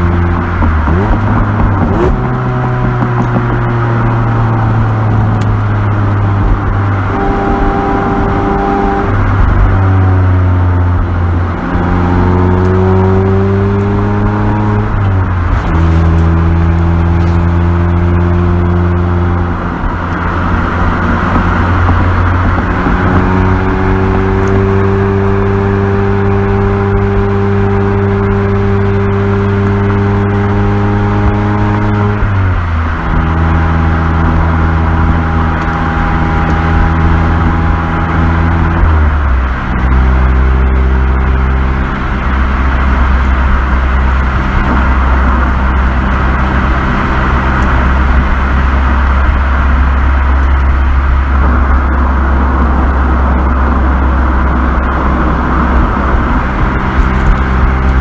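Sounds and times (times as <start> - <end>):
car exhaust note: 0.0 - 58.0
tyre and road noise: 0.0 - 58.0.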